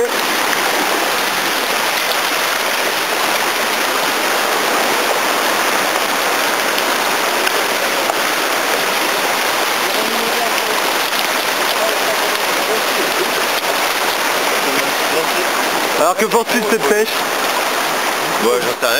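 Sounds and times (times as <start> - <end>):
river rushing over stones: 0.0 - 18.9.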